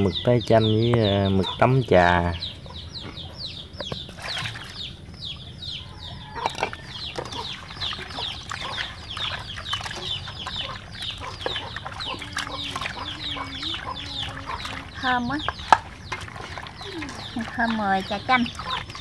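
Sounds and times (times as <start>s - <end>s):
chicks peeping: 0.0s - 19.0s
wet squishing of squid kneaded: 3.7s - 19.0s.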